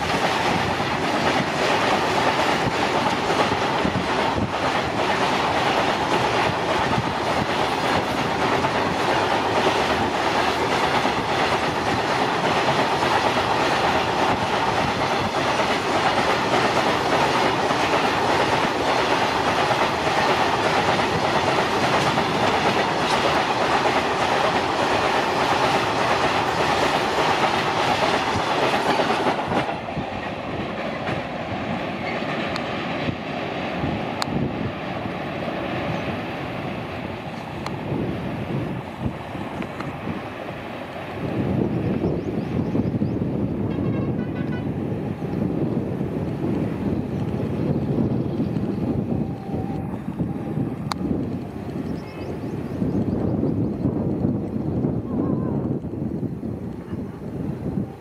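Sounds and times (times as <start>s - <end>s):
train wheels clattering on rails: 0.0s - 49.1s.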